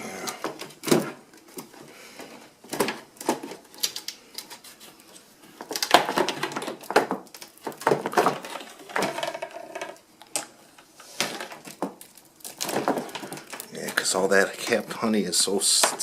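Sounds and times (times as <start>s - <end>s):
clicks and knocks of handled parts: 0.3s - 14.8s.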